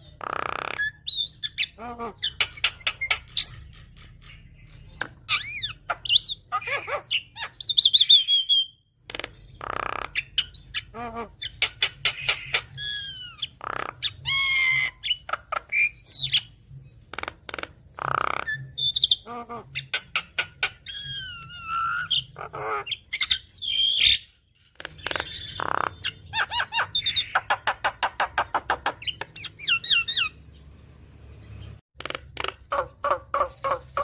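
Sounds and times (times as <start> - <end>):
myna bird singing: 0.0 - 34.0.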